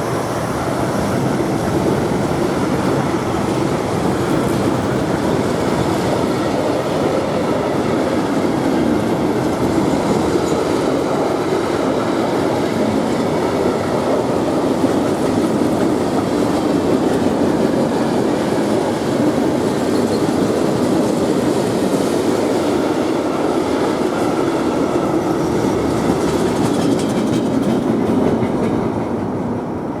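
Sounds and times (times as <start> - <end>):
freight train rumble and clatter: 0.0 - 30.0.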